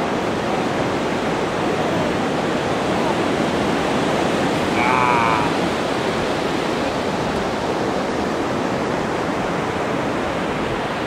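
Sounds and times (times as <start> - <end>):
ocean surf breaking: 0.1 - 11.0.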